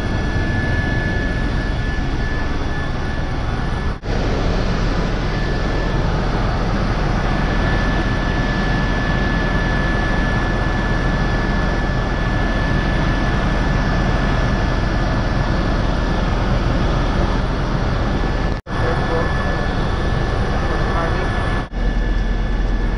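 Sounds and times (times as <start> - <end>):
helicopter engine and rotor noise: 0.0 - 22.9.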